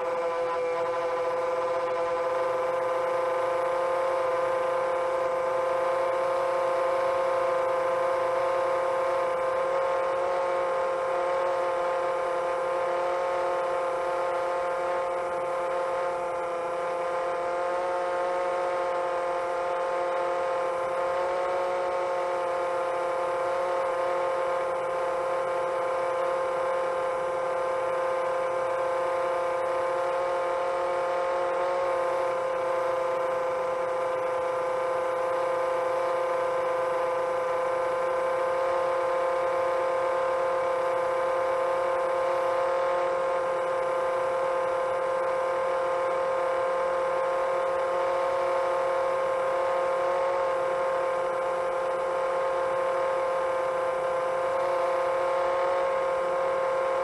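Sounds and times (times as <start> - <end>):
quadcopter propellers humming: 0.0 - 57.0.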